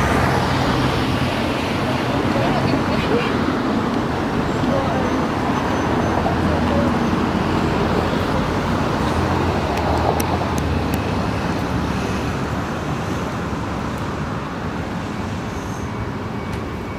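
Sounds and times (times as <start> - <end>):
motor traffic hum: 0.0 - 16.9.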